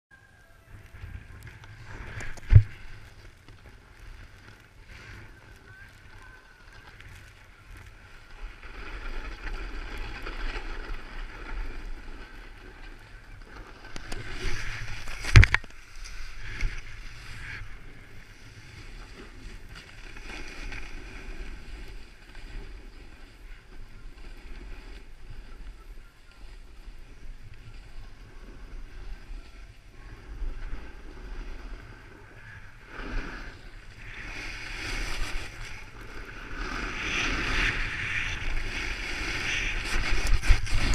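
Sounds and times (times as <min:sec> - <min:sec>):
wind rumbling on microphone: 0:00.1 - 0:40.9
skis gliding over packed snow: 0:00.2 - 0:40.9.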